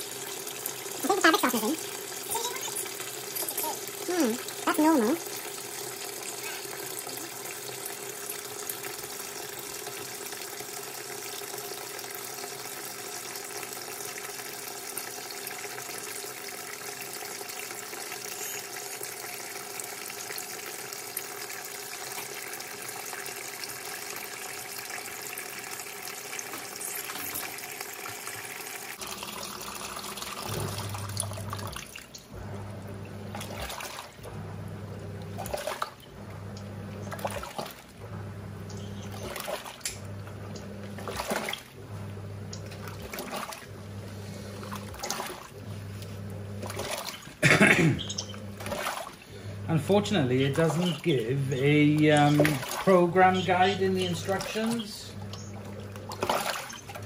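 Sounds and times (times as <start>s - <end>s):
washing machine filling with water: 0.0s - 57.0s
washing machine motor agitating: 0.0s - 57.0s.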